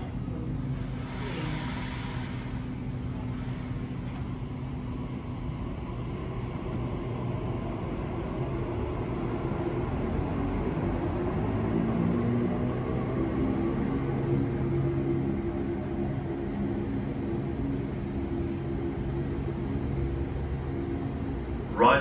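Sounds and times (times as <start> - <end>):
electric train motors humming: 0.0 - 22.0.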